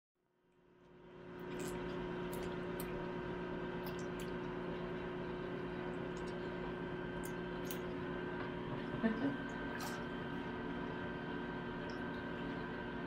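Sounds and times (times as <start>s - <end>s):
steady tonal hum: 1.0s - 13.0s.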